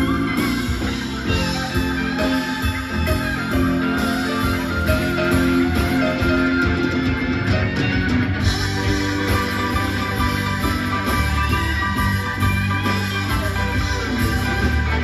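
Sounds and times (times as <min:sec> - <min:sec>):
bass: 0:00.0 - 0:15.0
drums: 0:00.0 - 0:15.0
electric guitars: 0:00.0 - 0:15.0
keyboard: 0:00.0 - 0:15.0.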